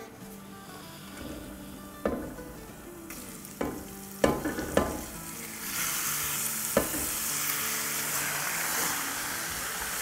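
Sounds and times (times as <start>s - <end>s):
meat sizzling in hot oil: 1.0s - 10.0s.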